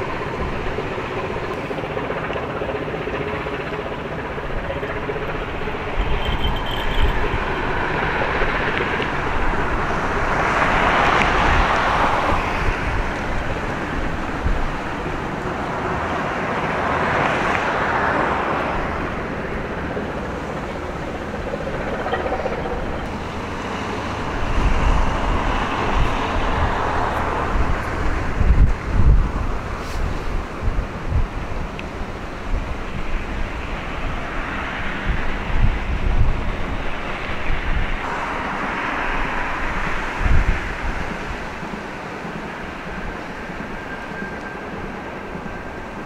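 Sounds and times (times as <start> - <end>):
low traffic rumble: 0.0 - 46.0
wind gusts on microphone: 0.0 - 46.0
vehicle tyre noise passing: 4.4 - 46.0.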